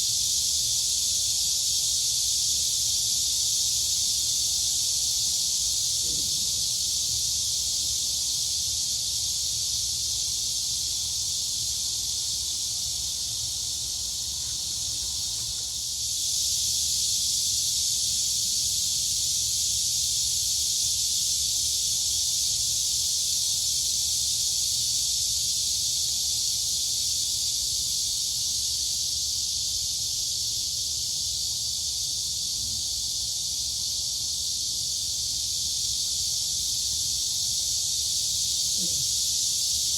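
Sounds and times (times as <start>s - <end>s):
crickets and cicadas buzzing: 0.0s - 39.9s.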